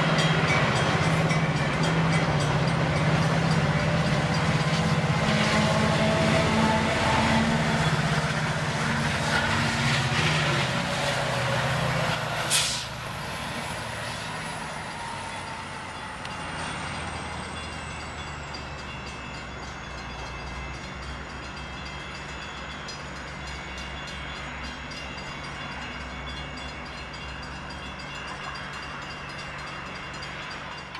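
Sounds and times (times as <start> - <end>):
diesel locomotive engine hum: 0.0 - 30.9.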